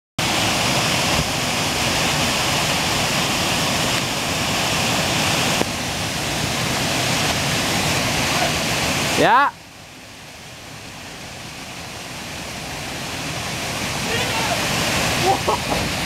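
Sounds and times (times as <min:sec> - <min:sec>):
waterfall rushing into pool: 0:00.2 - 0:16.0.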